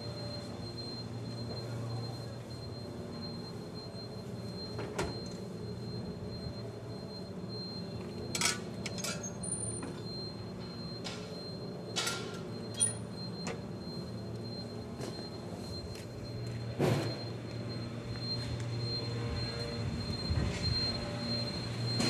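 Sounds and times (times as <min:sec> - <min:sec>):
factory machinery humming: 0:00.0 - 0:22.0.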